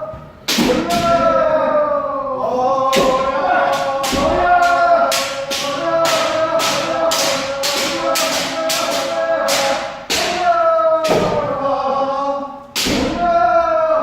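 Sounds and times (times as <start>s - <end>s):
voices holding long shout: 0.0s - 14.0s.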